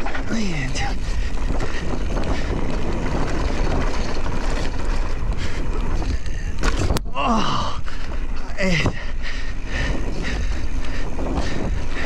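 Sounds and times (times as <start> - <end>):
tyres rolling over dirt trail: 0.0 - 12.0
wind rushing over microphone: 0.0 - 12.0.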